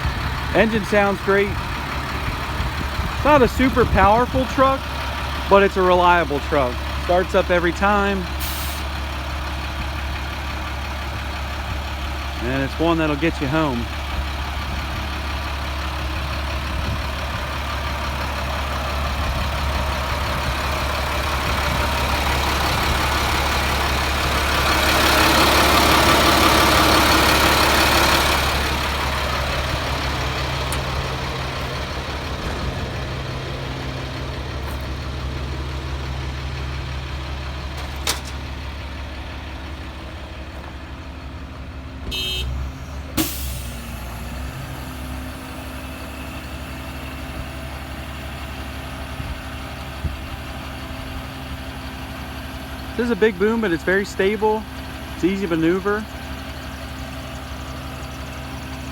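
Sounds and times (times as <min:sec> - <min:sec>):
truck diesel engine running: 0:00.0 - 0:58.9.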